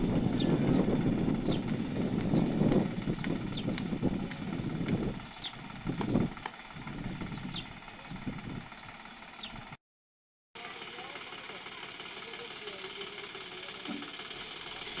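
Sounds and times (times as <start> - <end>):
tractor engine under load: 0.0 - 9.8, 10.6 - 15.0.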